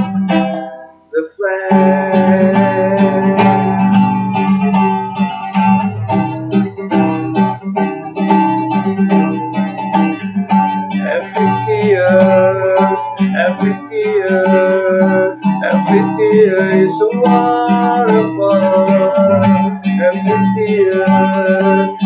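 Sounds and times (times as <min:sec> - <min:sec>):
acoustic guitar strumming: 0:00.0 - 0:22.0
person singing: 0:01.2 - 0:08.6, 0:10.9 - 0:22.0.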